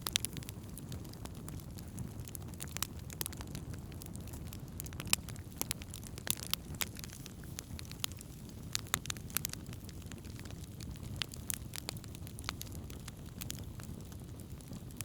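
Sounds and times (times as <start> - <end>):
campfire flames rumbling: 0.0 - 15.0
fire crackles and pops: 0.0 - 15.0.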